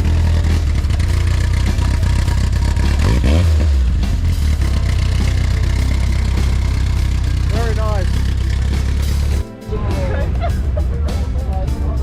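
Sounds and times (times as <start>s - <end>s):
car engine rumbling and revving: 0.0s - 11.1s.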